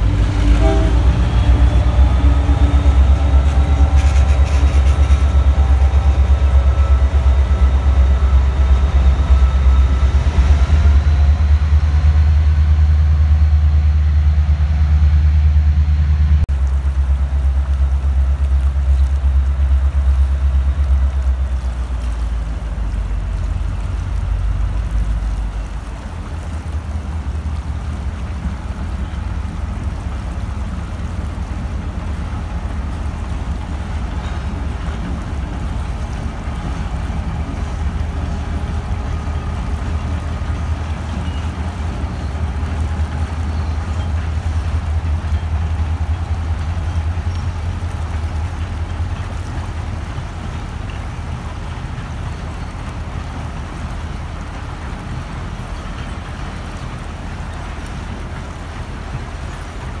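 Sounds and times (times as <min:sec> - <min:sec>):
diesel locomotive rumble: 0:00.0 - 1:00.0
river rapids rushing: 0:00.0 - 1:00.0.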